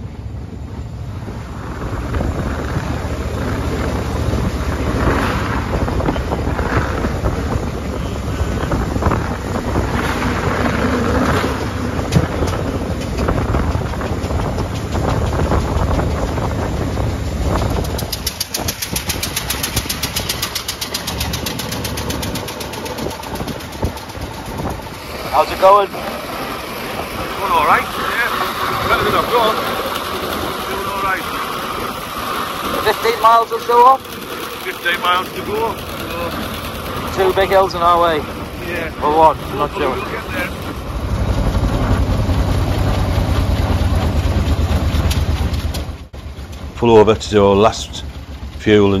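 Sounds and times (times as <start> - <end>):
old car engine running: 0.0 - 49.0.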